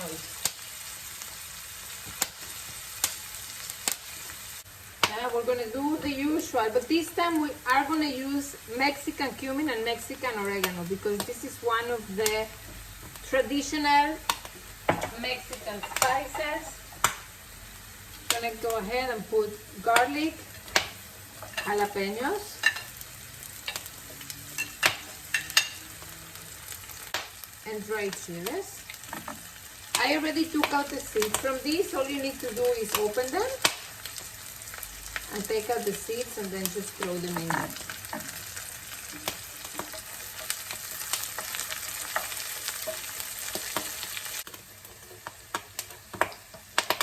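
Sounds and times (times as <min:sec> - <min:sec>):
vegetables sizzling in a pan: 0:00.0 - 0:47.0.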